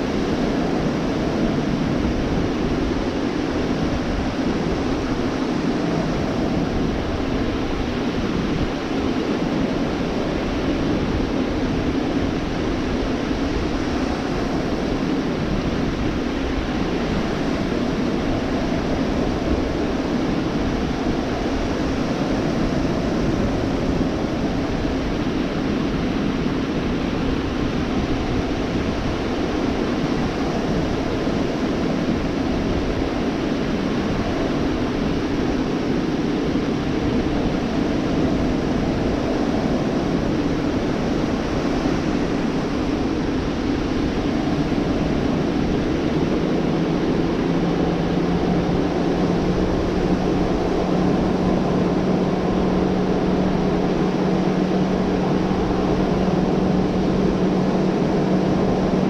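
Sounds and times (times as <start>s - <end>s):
low steady hum: 0.0s - 59.0s
surf washing onto beach: 0.0s - 59.0s.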